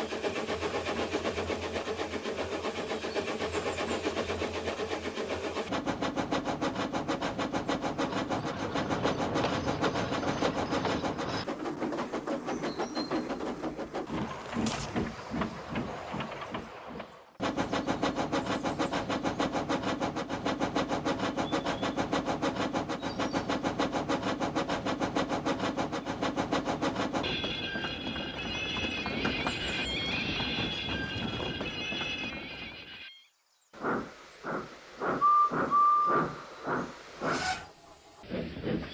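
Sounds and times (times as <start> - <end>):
steam locomotive chuffing: 0.0 - 32.4, 33.8 - 38.9.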